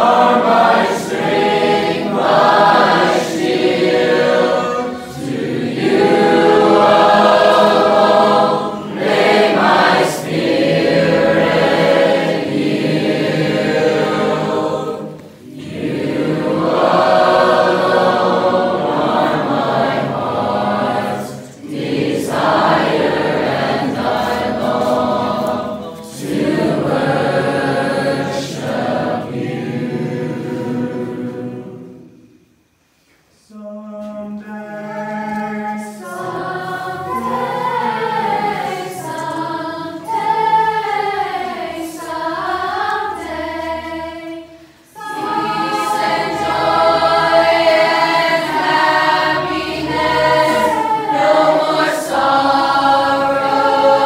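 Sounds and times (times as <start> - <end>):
choir singing: 0.0 - 32.5, 33.4 - 54.0.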